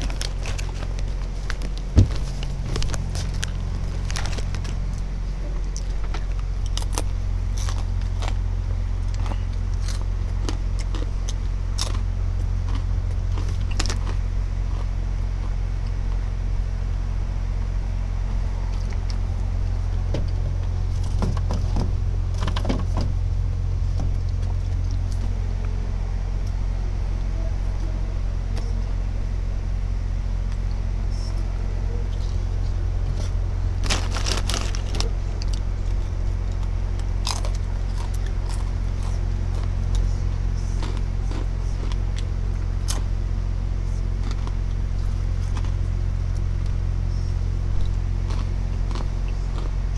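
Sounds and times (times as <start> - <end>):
low machine hum: 0.0 - 49.9.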